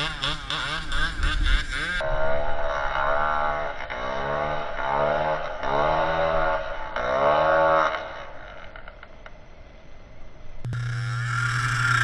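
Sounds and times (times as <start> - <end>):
dirt bike engine revving: 0.0 - 8.9, 10.7 - 12.0.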